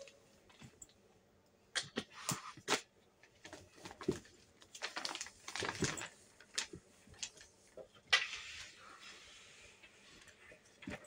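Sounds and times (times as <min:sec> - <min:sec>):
rummaging through bags and clothes: 0:01.8 - 0:11.0.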